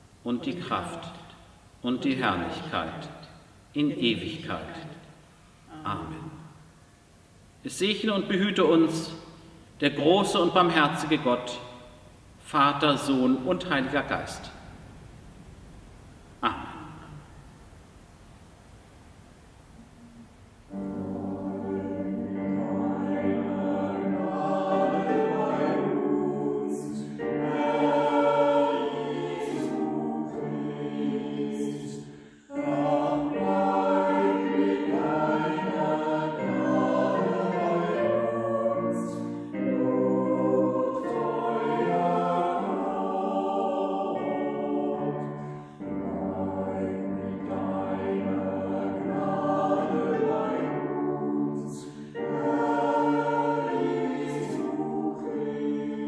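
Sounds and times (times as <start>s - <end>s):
church choir singing a hymn: 1.8s - 6.7s, 7.7s - 14.8s, 20.7s - 56.0s.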